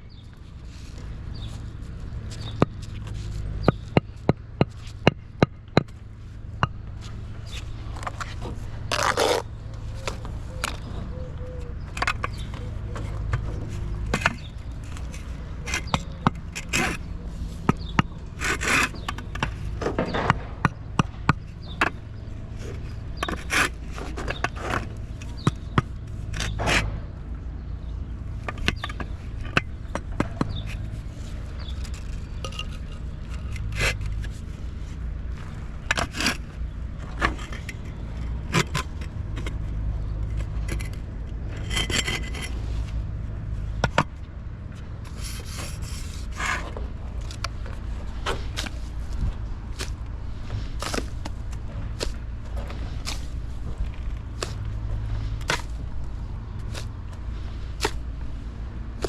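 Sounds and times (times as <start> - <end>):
scraping: 0.1 - 59.0.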